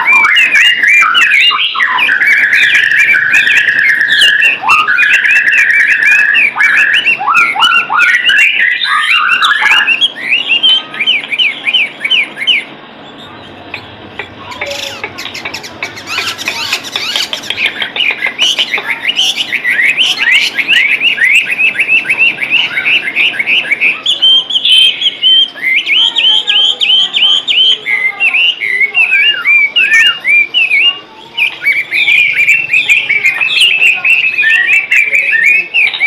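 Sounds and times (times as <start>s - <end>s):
songbird chirping and whistling: 0.0s - 36.0s.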